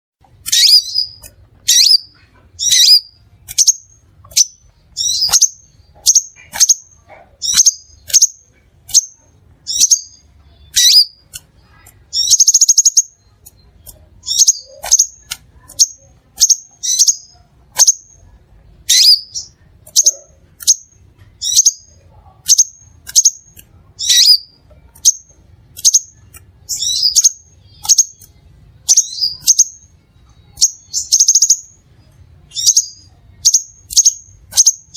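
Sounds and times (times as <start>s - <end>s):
bird chirping: 0.4s - 34.9s
buzzy bird trill: 0.4s - 34.9s.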